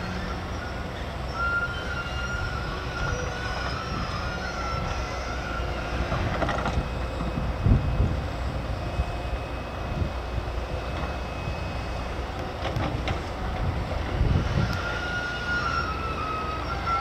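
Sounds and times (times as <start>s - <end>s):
diesel engine rumble: 0.0s - 17.0s
high metallic squeals: 0.0s - 17.0s.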